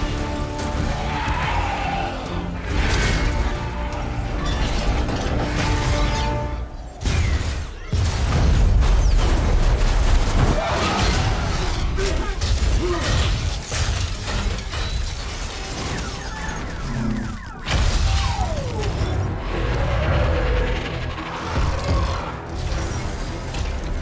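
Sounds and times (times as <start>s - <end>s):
film score music: 0.0s - 24.0s.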